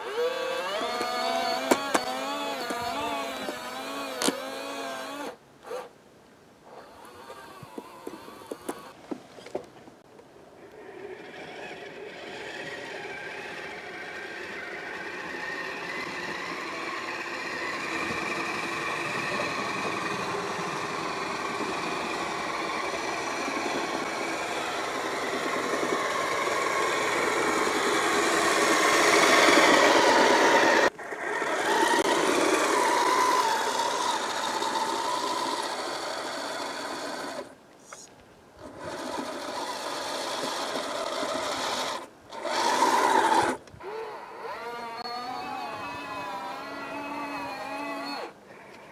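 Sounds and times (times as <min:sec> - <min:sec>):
toy snowcat motor whining: 0:00.0 - 0:05.9, 0:06.6 - 0:09.0, 0:10.6 - 0:48.9.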